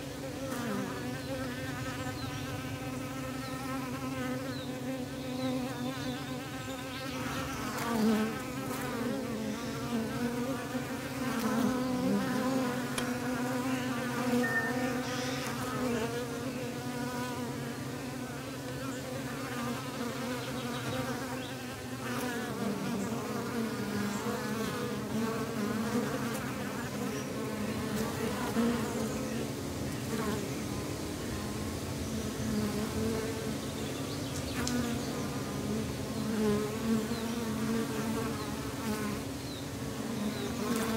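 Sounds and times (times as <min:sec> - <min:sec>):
honeybees buzzing: 0:00.0 - 0:40.9.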